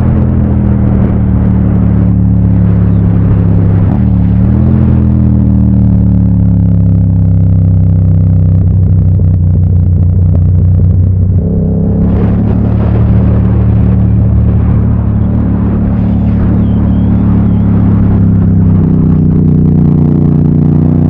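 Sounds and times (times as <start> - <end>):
motorcycle engine running: 0.0 - 21.0
rough noisy rumble: 0.0 - 21.0.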